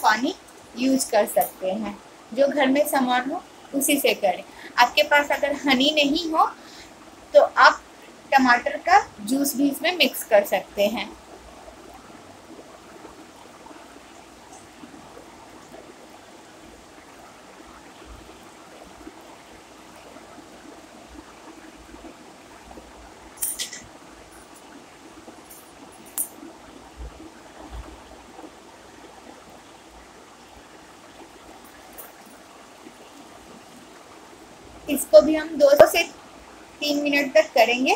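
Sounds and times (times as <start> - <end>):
background hiss: 0.0 - 37.9.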